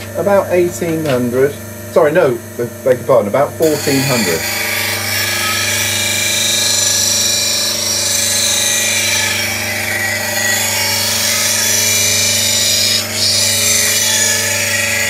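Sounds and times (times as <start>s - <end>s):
bench grinder motor humming: 0.0s - 15.0s
high grinding hiss: 0.0s - 15.0s.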